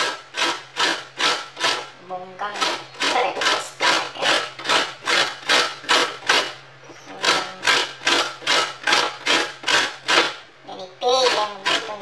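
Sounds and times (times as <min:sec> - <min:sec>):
food rasping on metal grater: 0:00.0 - 0:10.4, 0:11.0 - 0:12.0.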